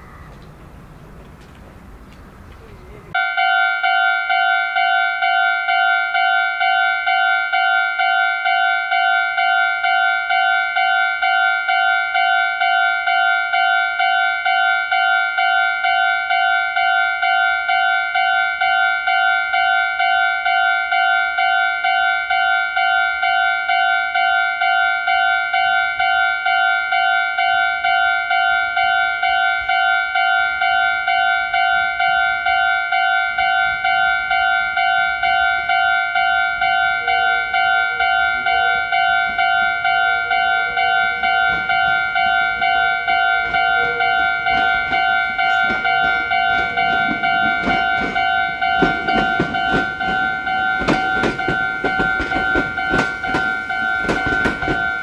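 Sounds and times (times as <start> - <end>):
level crossing warning bell: 3.1 - 55.0.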